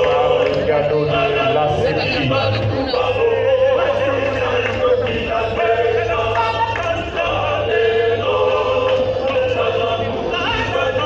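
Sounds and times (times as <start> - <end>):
choir singing long notes: 0.0 - 11.0
steady low drone: 0.0 - 11.0.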